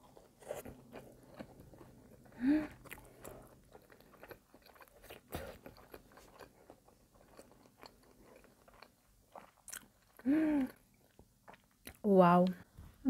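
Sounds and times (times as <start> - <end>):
close chewing: 0.0 - 12.1
food crunch: 0.1 - 12.0.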